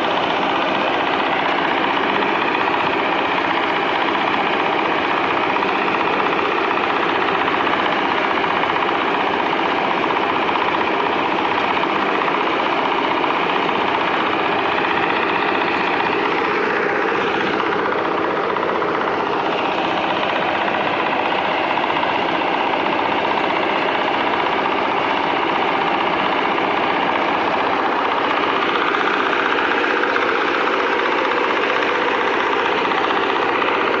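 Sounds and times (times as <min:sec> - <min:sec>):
harvester engine running: 0:00.0 - 0:34.0.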